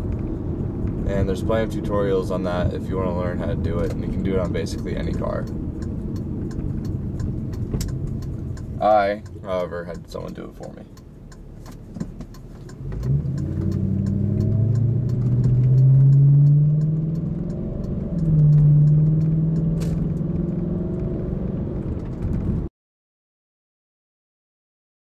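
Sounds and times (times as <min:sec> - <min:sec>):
car engine accelerating: 0:00.0 - 0:22.7.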